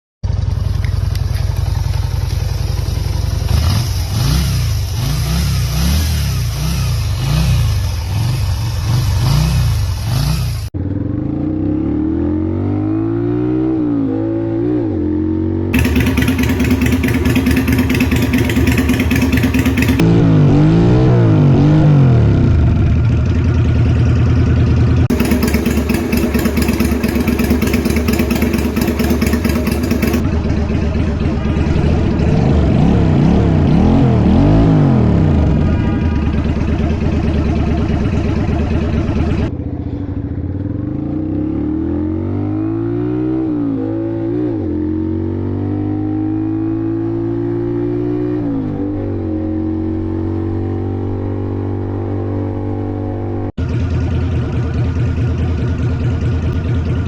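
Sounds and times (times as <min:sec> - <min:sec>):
motorcycle engine revving: 0:00.2 - 0:57.0.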